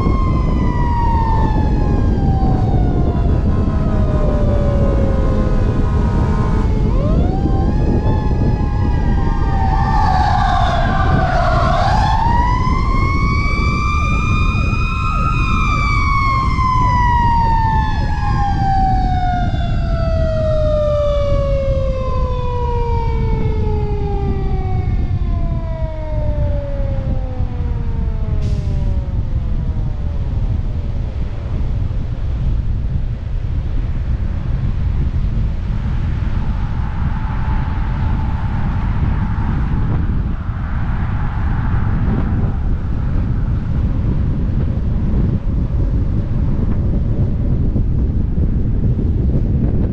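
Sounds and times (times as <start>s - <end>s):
fire truck siren: 0.0s - 32.4s, 35.4s - 49.9s
wind and road noise: 0.0s - 49.9s.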